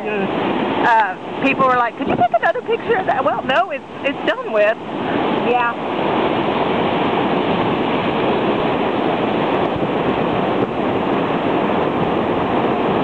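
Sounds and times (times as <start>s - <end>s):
surf washing ashore: 0.0s - 13.0s.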